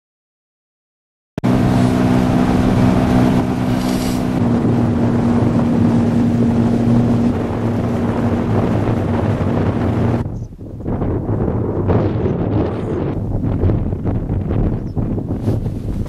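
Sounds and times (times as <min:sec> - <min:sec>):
motorboat engine running: 0:01.4 - 0:16.0
wind buffeting microphone: 0:01.4 - 0:16.0.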